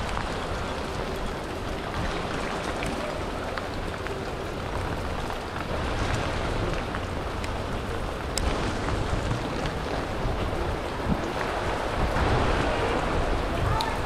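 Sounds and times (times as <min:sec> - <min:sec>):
rain on wet street: 0:00.0 - 0:14.0.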